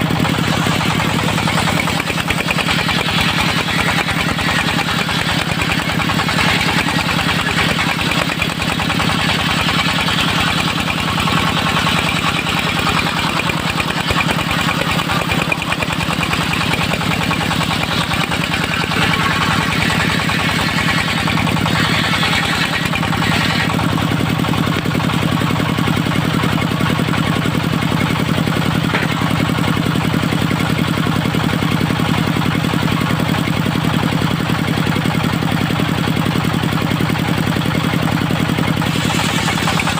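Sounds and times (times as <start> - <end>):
diesel engine running: 0.0 - 39.9
saw blade cutting log: 0.0 - 39.9.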